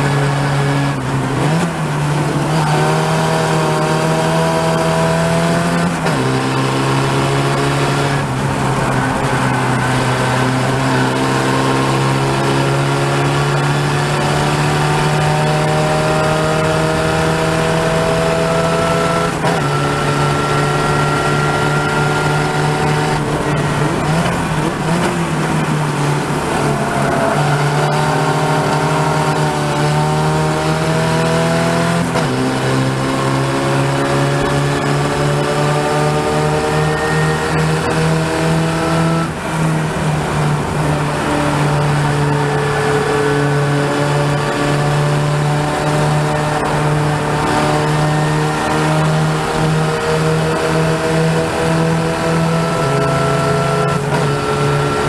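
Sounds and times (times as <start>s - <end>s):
race car engine accelerating: 0.0s - 55.0s
rushing wind and road noise: 0.0s - 55.0s.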